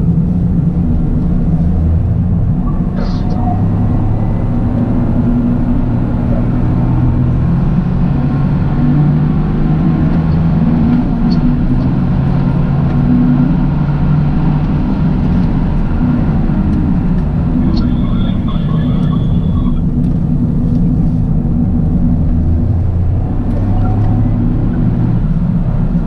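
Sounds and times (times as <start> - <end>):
car engine running while driving: 0.0 - 26.0.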